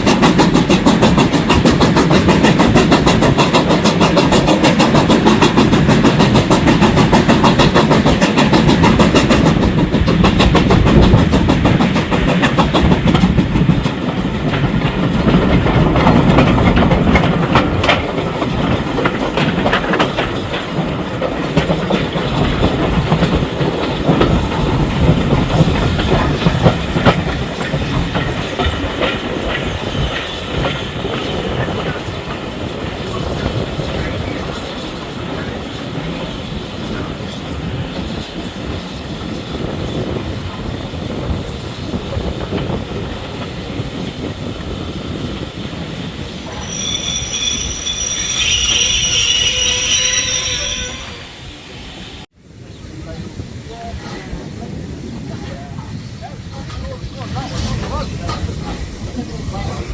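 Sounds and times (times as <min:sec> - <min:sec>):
train wheels clattering: 0:00.0 - 0:51.2.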